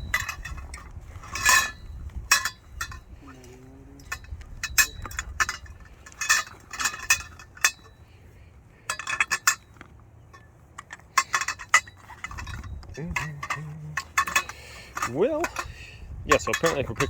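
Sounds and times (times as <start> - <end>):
metal tubes clinking together: 0.0 - 17.0.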